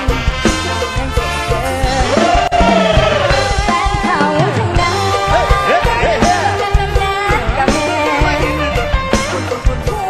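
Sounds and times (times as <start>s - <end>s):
steady drum beat: 0.0s - 10.0s
person singing: 1.0s - 10.0s.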